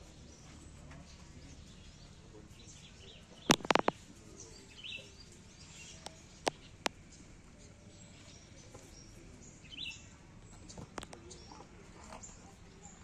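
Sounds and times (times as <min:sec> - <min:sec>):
faint bird chirps: 0:00.0 - 0:13.0
steady background hum: 0:00.0 - 0:13.0.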